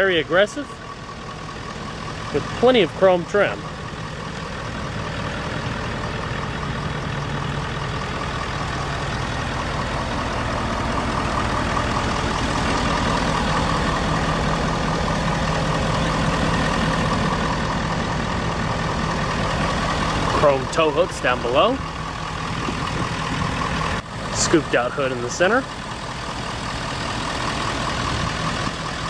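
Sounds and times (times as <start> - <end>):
diesel truck engine idling: 0.0 - 29.0.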